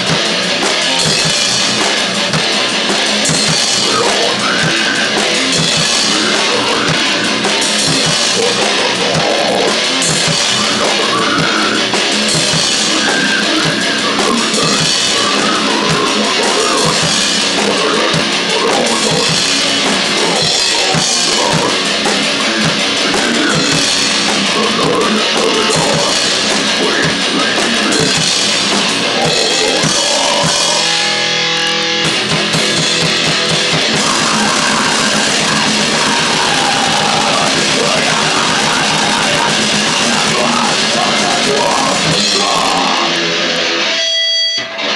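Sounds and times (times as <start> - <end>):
distorted guitar: 0.0 - 44.9
fast drum kit: 0.0 - 44.9.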